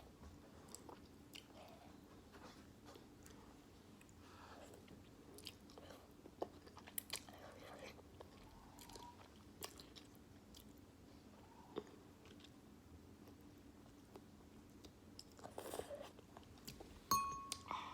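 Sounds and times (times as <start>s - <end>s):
chewing noodles: 0.6s - 2.0s, 3.0s - 10.8s, 11.4s - 16.8s.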